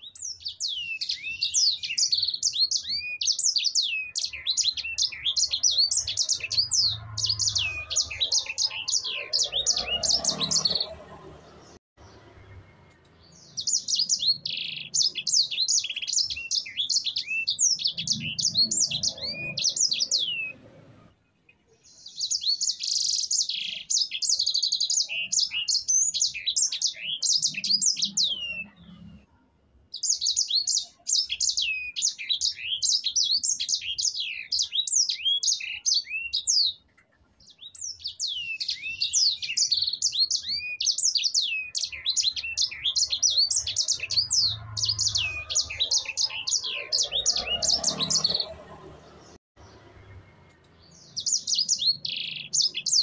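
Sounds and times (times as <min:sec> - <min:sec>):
finch singing: 0:00.0 - 0:21.0, 0:21.7 - 0:29.2, 0:29.9 - 0:53.0.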